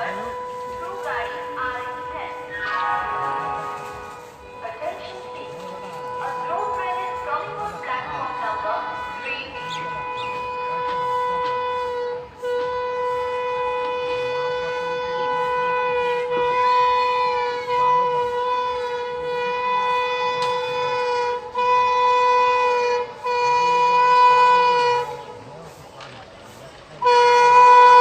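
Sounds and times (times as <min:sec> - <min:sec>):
locomotive air horn blasts: 0:00.0 - 0:28.0.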